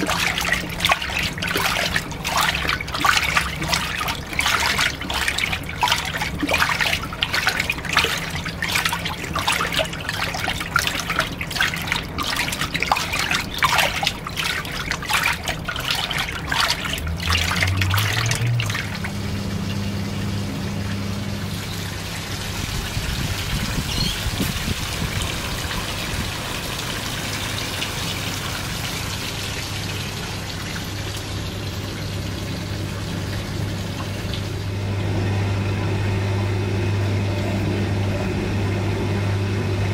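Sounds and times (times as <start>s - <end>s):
washing machine motor humming: 0.0s - 39.9s
water splashing into washing machine: 0.0s - 39.9s.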